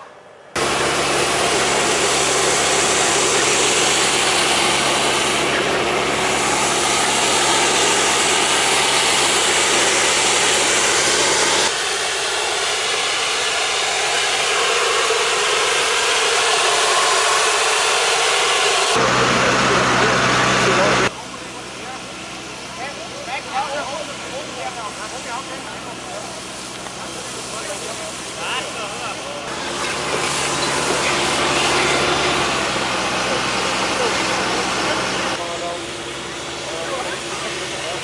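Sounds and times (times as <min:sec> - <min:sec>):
engine hum: 0:00.0 - 0:38.0
foam nozzle spraying: 0:00.6 - 0:21.1, 0:23.9 - 0:35.4.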